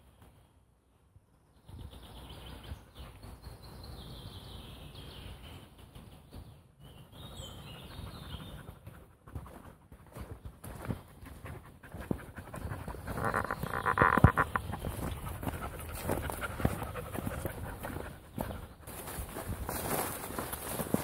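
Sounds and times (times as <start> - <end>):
songbird singing: 0.0 - 9.2, 10.1 - 20.5.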